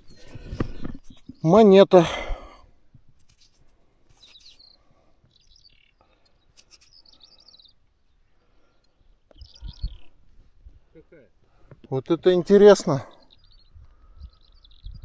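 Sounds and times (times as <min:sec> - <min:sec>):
faint birdsong chirping: 0:00.0 - 0:15.0.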